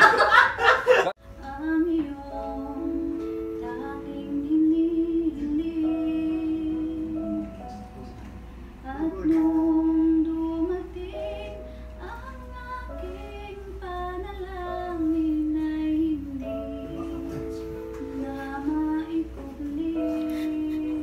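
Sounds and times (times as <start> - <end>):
instrumental backing music: 1.2 - 21.0
woman singing slow love song: 1.3 - 7.7, 8.8 - 21.0.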